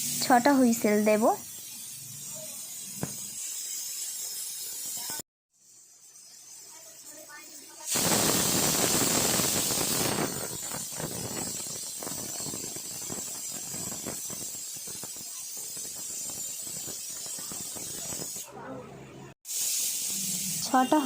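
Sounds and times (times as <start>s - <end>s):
pressure cooker whistling: 0.0s - 18.4s, 19.5s - 21.0s.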